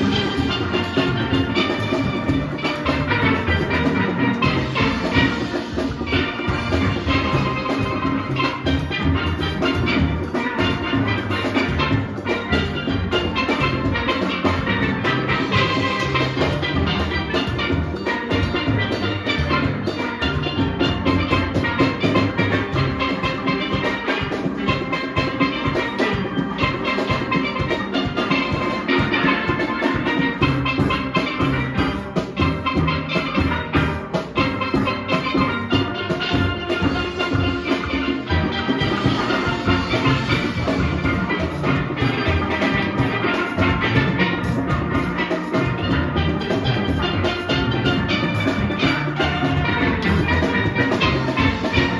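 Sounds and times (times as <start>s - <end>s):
driving drum and percussion rhythm: 0.0s - 51.9s
steelpans playing chords and melody: 0.0s - 51.9s.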